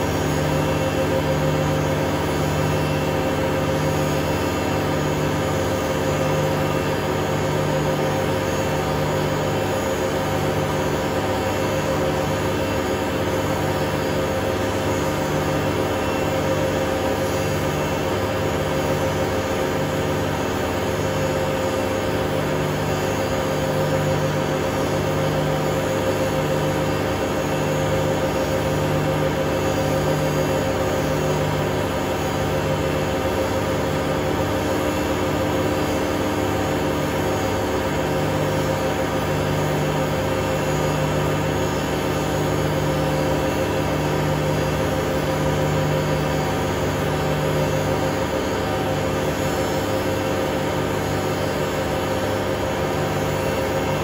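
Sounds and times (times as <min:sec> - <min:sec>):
washing machine spin cycle: 0:00.0 - 0:54.0.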